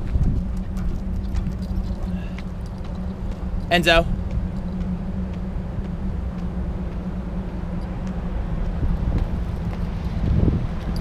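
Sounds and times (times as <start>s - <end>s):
faint hum: 0.0s - 11.0s
low city rumble: 0.0s - 11.0s.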